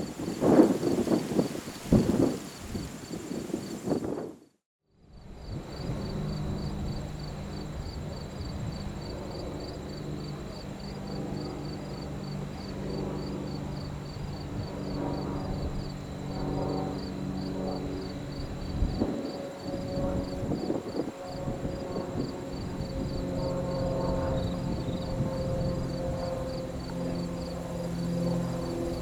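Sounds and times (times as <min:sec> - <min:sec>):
insects chirping: 0:00.0 - 0:04.2, 0:05.4 - 0:29.0
distant jet engines humming: 0:00.0 - 0:04.3, 0:05.3 - 0:29.0.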